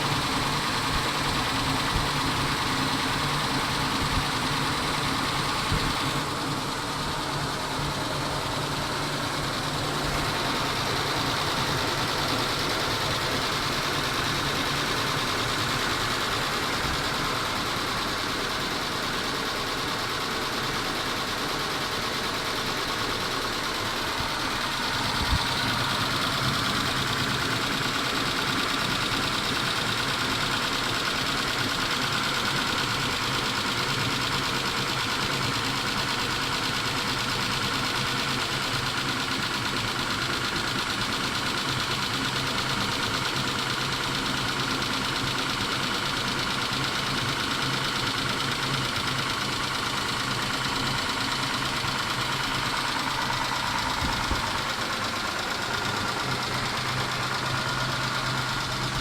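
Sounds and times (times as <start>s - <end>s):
engine idling with light ticking: 0.0s - 59.0s.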